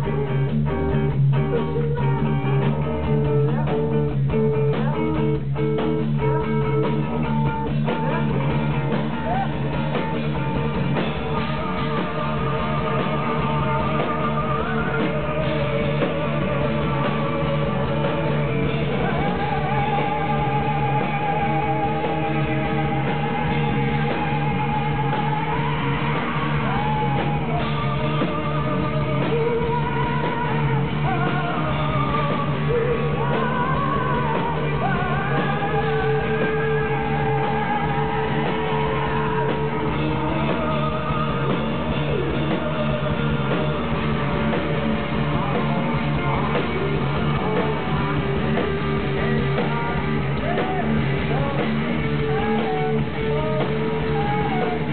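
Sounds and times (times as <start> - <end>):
heavy rock band playing: 0.0 - 54.9
person singing long notes: 0.0 - 54.9.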